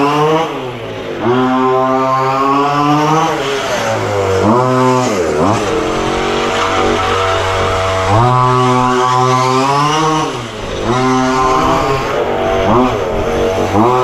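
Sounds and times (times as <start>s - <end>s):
model car engine revving: 0.0s - 14.0s.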